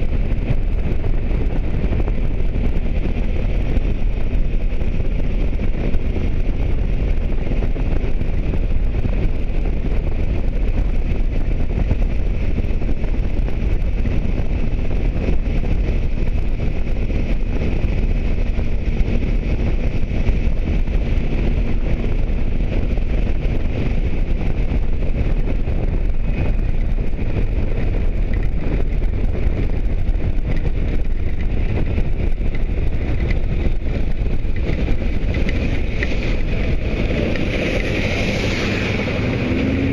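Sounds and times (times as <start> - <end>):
motorcycle running: 0.0 - 39.9
wind buffeting microphone: 0.0 - 39.9.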